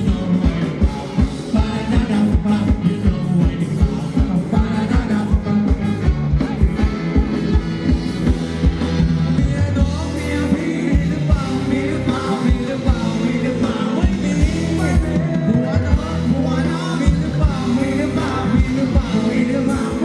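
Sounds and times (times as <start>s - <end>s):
person singing: 0.0s - 8.1s, 9.2s - 20.0s
live band dance music: 0.0s - 20.0s
steady drum beat: 0.0s - 20.0s.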